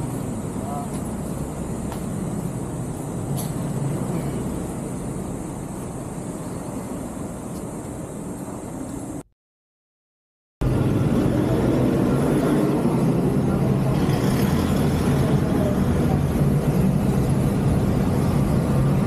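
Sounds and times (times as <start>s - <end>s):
street traffic: 0.0s - 9.3s, 10.6s - 19.0s
vehicle engine humming: 0.0s - 9.3s, 10.6s - 19.0s.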